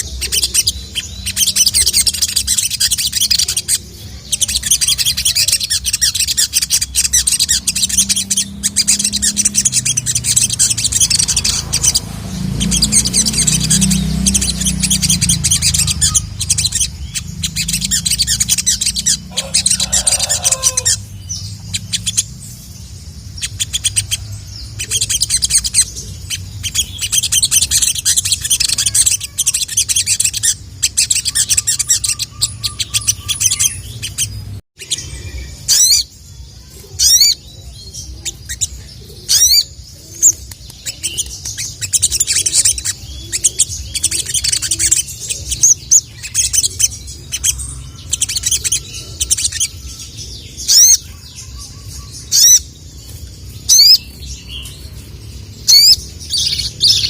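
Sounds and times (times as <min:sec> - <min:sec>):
bird singing with high chirps: 0:00.0 - 0:57.0.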